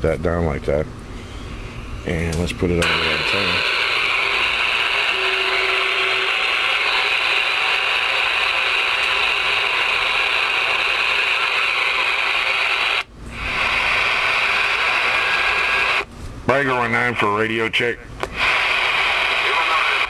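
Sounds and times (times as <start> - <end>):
radio static hiss: 2.0 - 20.0.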